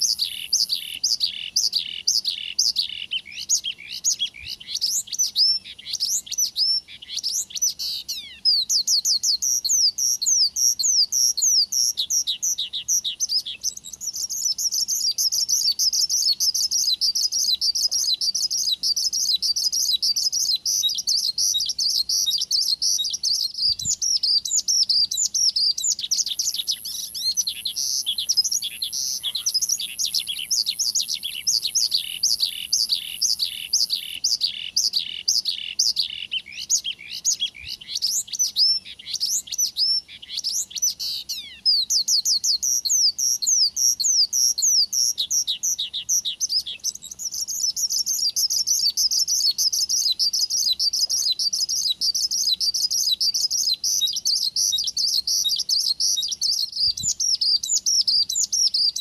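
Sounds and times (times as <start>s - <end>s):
bush lark singing: 0.0s - 59.0s.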